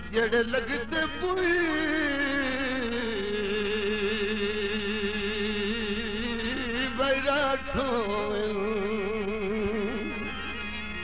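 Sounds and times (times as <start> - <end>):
man singing folk song: 0.0 - 10.3.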